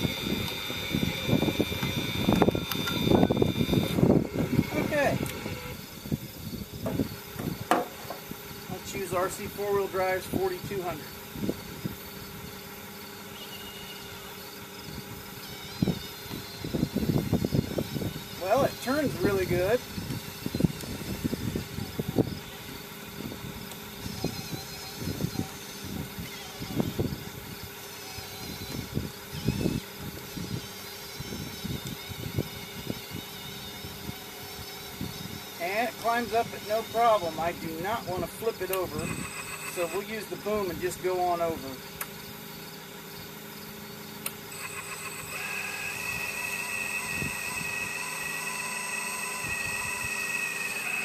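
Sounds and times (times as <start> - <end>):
electric hydraulic pump humming: 0.0 - 51.0
toy excavator motor whine: 0.0 - 51.0.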